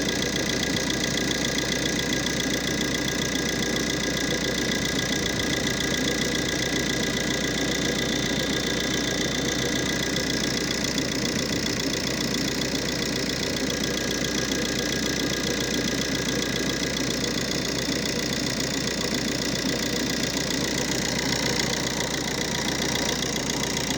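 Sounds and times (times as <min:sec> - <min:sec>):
engine idling: 0:00.0 - 0:23.9.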